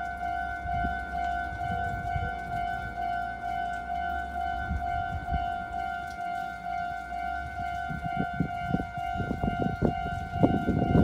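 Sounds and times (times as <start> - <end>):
railroad crossing warning bell: 0.0 - 11.0.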